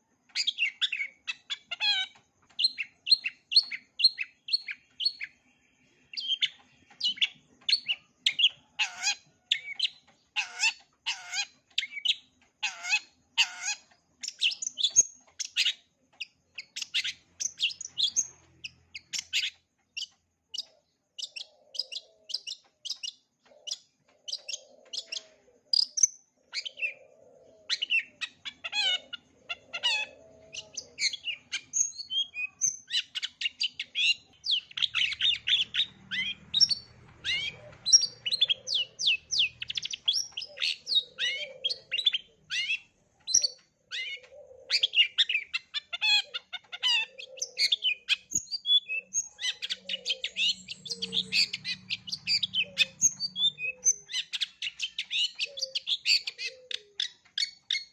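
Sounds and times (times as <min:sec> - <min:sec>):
bird singing chirps and trills: 0:00.0 - 0:57.9.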